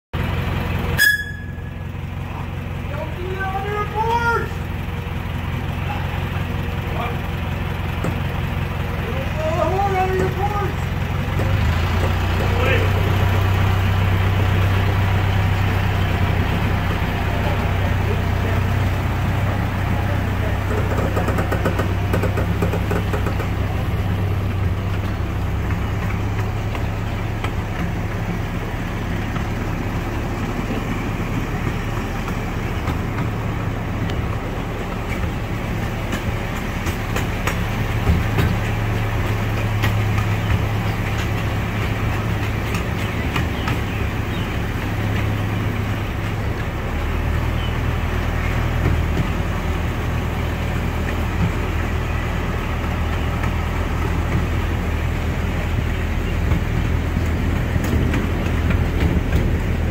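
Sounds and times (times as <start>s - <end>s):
small locomotive engine drone: 0.2s - 59.9s
train clicks and rattles: 2.9s - 59.9s.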